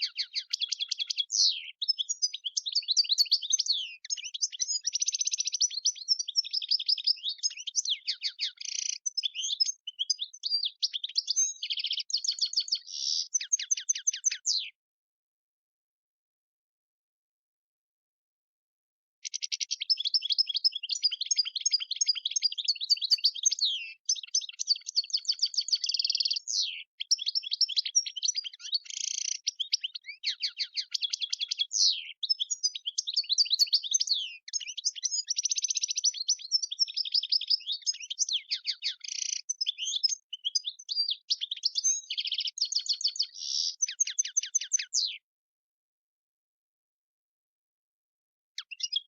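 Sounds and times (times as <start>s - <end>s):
bird twittering song: 0.0s - 14.8s, 19.2s - 45.3s, 48.6s - 49.0s.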